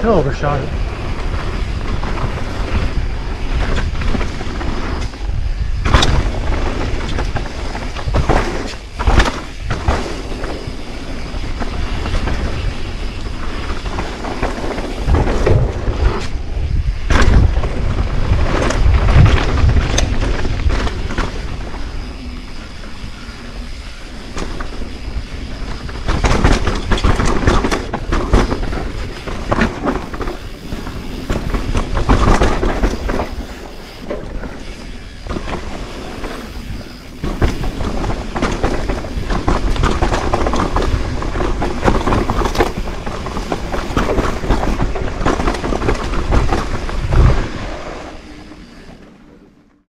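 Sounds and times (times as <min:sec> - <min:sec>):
bike tyres rolling over dirt: 0:00.0 - 0:49.8.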